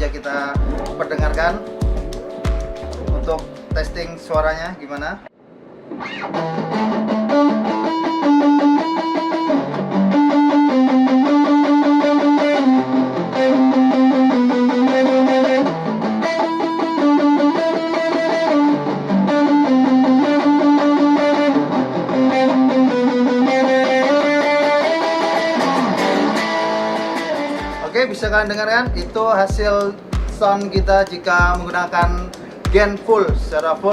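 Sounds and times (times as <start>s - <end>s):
distorted electric guitar riff: 0.0s - 4.7s, 5.8s - 33.9s.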